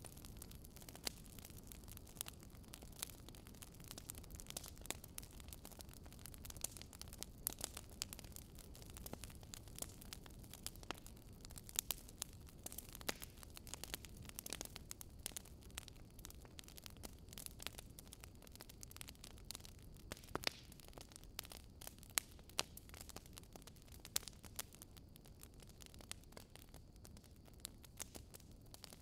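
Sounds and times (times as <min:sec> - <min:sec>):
fire pops and snaps: 0:00.0 - 0:29.0.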